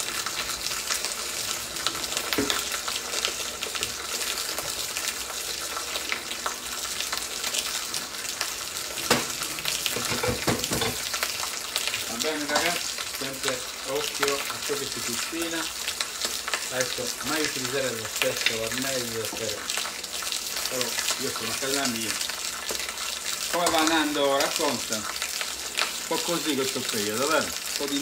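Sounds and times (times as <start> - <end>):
steaks sizzling in a pan: 0.0 - 28.0.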